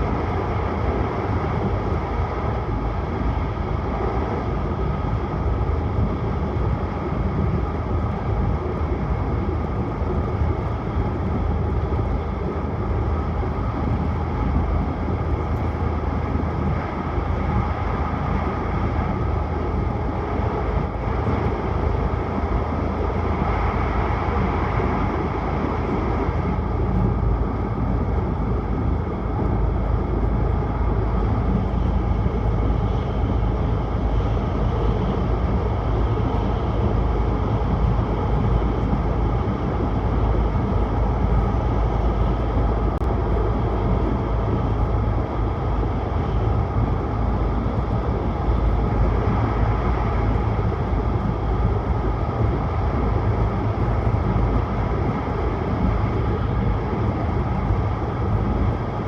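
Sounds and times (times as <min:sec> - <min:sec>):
train running rumble with hiss: 0:00.0 - 0:59.0.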